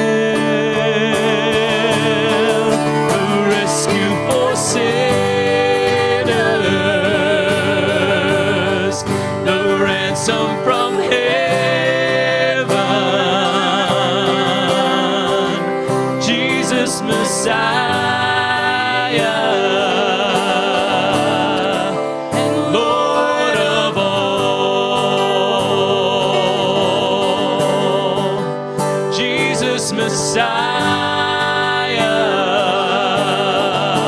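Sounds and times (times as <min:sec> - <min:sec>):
acoustic guitars: 0:00.0 - 0:34.0
person singing long vibrato notes: 0:00.0 - 0:34.0.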